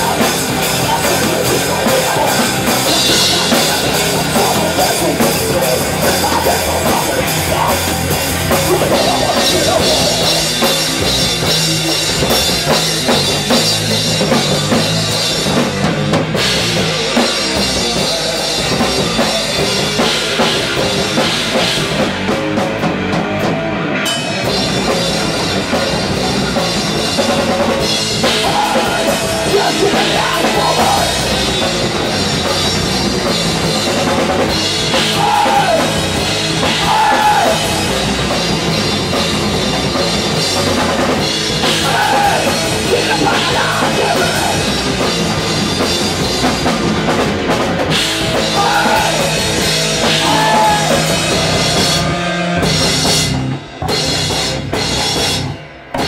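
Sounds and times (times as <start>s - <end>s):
drum kit: 0.0s - 56.0s
rock band playing live: 0.0s - 56.0s.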